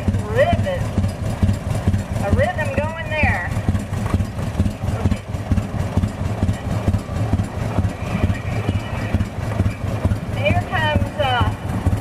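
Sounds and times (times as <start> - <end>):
tractor engine chugging: 0.0 - 12.0.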